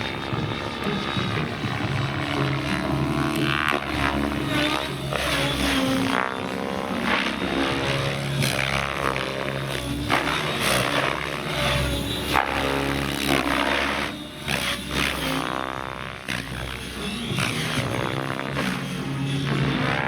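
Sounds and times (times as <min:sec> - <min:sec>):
model helicopter rotor and motor whine: 0:00.0 - 0:20.0.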